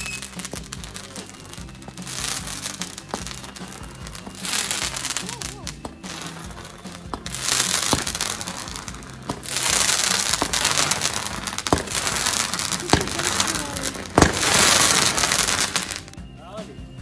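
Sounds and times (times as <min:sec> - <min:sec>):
fireworks launching hiss: 0:00.0 - 0:16.2
fireworks sharp bangs: 0:00.0 - 0:16.2.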